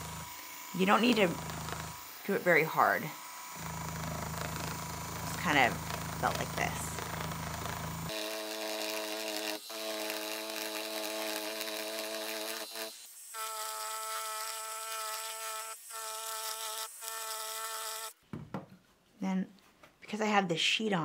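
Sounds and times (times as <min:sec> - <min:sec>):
needle felting machine buzzing: 0:00.0 - 0:18.2.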